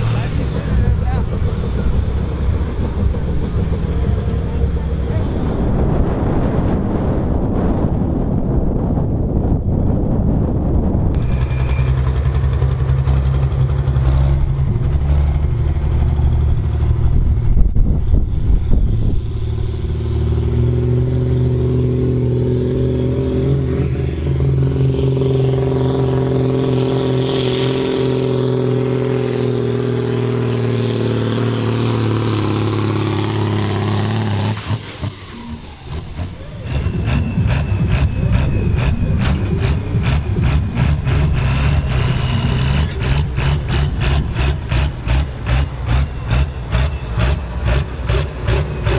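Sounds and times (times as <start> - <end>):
tractor diesel engine under load: 0.0 - 48.9.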